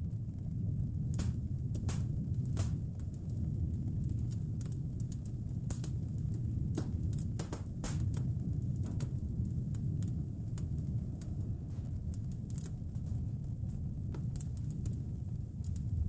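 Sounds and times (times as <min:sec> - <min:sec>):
blizzard wind rumble: 0:00.0 - 0:16.0
wood fire crackling: 0:00.0 - 0:16.0.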